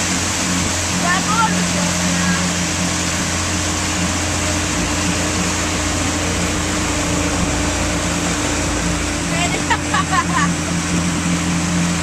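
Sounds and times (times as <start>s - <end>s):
churning wake water: 0.0s - 12.0s
motorboat engine droning: 0.0s - 12.0s.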